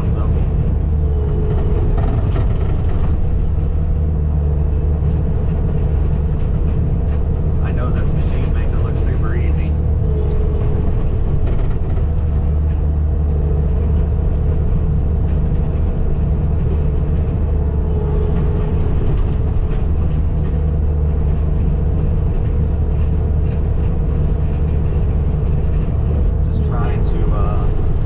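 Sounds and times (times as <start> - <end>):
skid steer engine rumble: 0.0 - 28.0.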